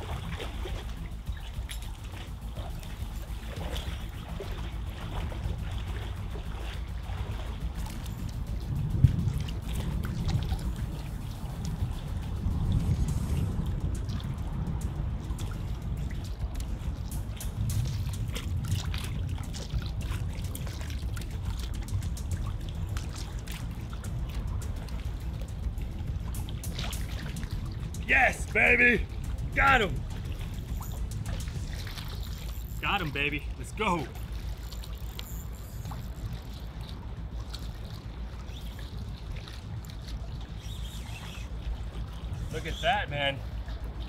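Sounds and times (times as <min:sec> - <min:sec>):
low steady rumble: 0:00.0 - 0:44.0
waves lapping against concrete: 0:00.0 - 0:44.0
wind buffeting microphone: 0:00.0 - 0:44.0.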